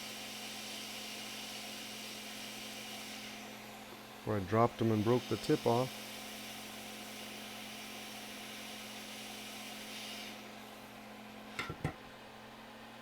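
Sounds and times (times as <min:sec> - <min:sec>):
hot air station hissing: 0:00.0 - 0:12.0.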